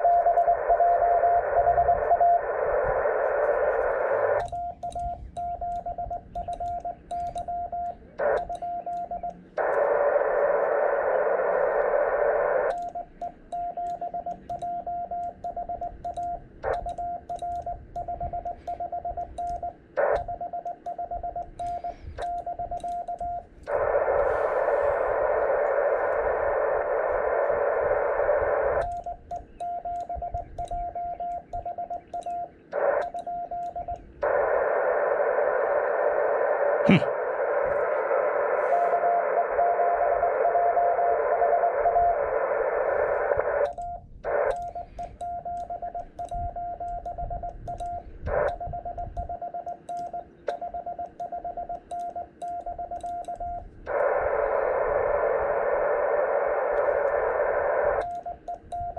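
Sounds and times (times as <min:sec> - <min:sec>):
morse code tone: 0:00.0 - 0:10.8, 0:11.5 - 0:34.8, 0:38.6 - 0:55.1, 0:56.5 - 0:58.9
radio receiver hiss: 0:00.0 - 0:58.9.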